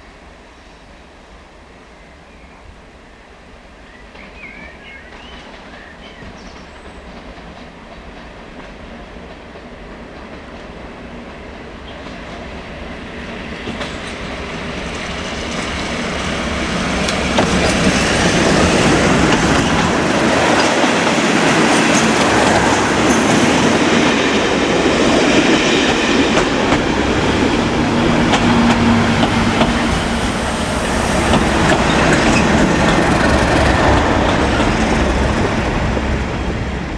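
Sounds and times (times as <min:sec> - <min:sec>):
rail and wheel noise: 0:00.0 - 0:36.9
diesel locomotive engines working: 0:04.2 - 0:36.9.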